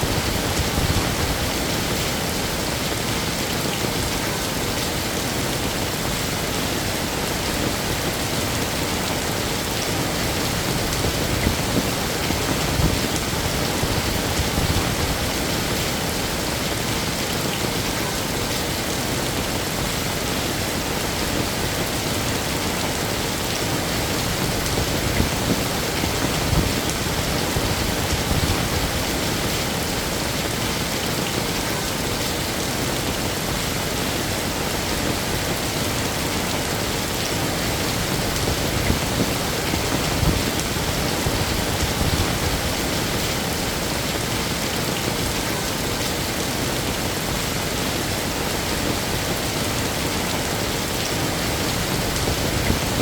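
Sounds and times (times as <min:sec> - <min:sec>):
heavy rain on hard surfaces: 0:00.0 - 0:53.0.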